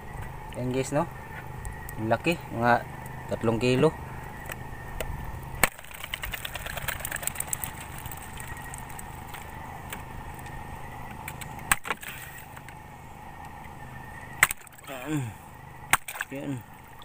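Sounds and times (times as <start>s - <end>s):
small engine humming with whine: 0.0s - 17.0s.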